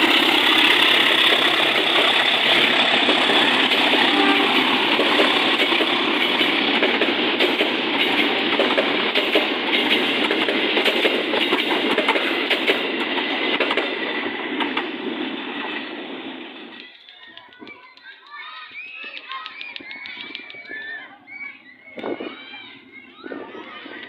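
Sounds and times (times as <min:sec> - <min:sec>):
rumble of train wheels on rails: 0:00.0 - 0:24.0
wheels clicking over rail joints: 0:00.0 - 0:24.0.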